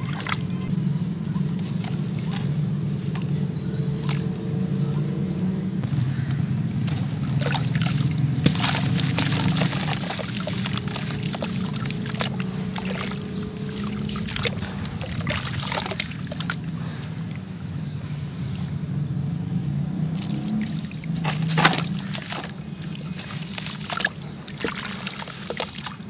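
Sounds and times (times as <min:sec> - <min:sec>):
hands squelching mud in water: 0:00.0 - 0:05.0, 0:05.8 - 0:19.0, 0:19.6 - 0:26.0.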